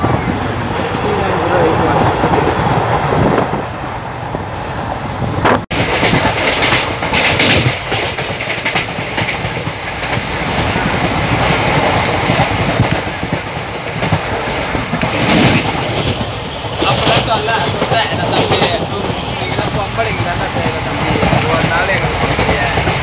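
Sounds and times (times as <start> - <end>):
clickety-clack over rail joints: 0.0 - 4.5, 5.2 - 23.0
train wheels rumbling on rails: 0.0 - 23.0.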